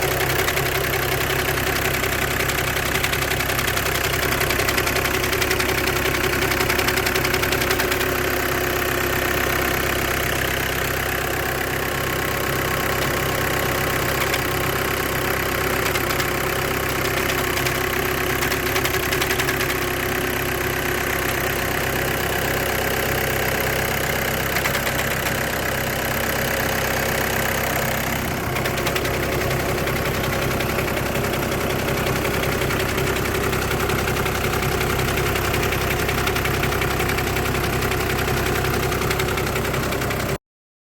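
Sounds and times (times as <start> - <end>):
car engine idling: 0.0 - 40.4.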